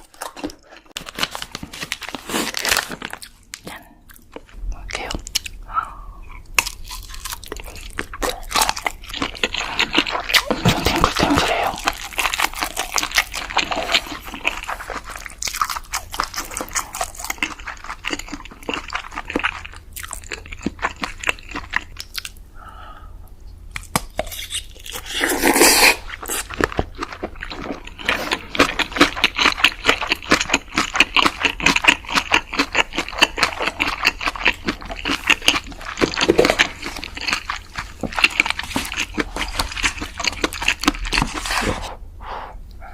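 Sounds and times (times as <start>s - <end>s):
person chewing crunchy food: 0.0s - 22.4s, 23.7s - 42.0s.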